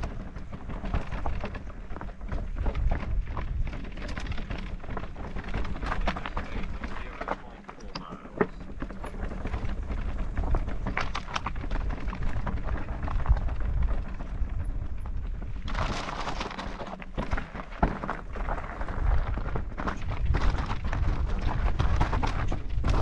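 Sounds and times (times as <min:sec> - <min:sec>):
bike rattles and knocks: 0:00.0 - 0:23.0
wind rumble on microphone: 0:00.0 - 0:23.0.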